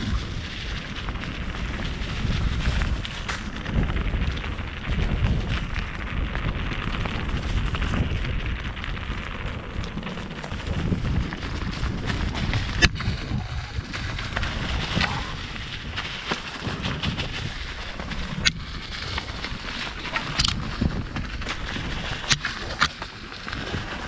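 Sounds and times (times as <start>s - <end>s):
wind buffeting microphone: 0.0s - 22.9s
bike knocking and rattling: 0.0s - 24.0s
tyres rolling on gravel: 0.0s - 24.0s.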